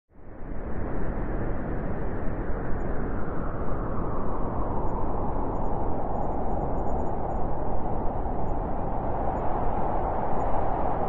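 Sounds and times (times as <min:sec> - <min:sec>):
rushing wind: 0:00.2 - 0:11.0.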